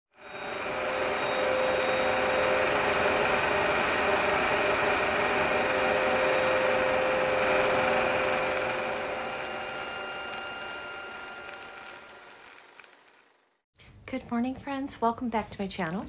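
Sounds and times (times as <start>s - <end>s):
film projector whirring: 0.1s - 13.6s.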